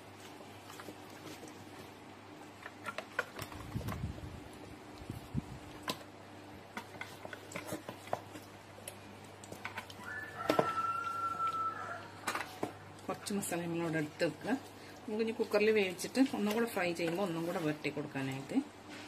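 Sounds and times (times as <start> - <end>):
wet squishes of hands rubbing chicken: 0.0 - 2.8, 3.4 - 18.5.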